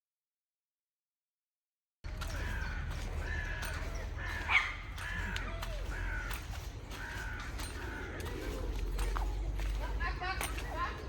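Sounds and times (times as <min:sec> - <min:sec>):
birds calling: 0:02.0 - 0:11.0.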